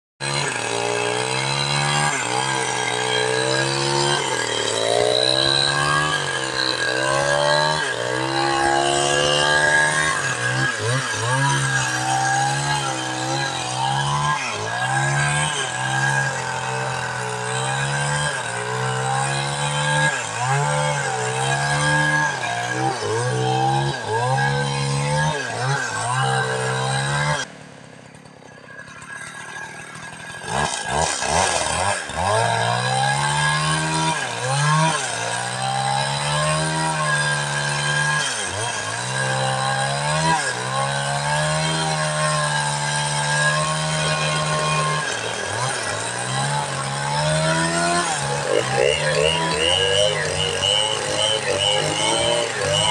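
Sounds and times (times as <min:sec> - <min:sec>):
chainsaw engine running: 0:00.2 - 0:52.9.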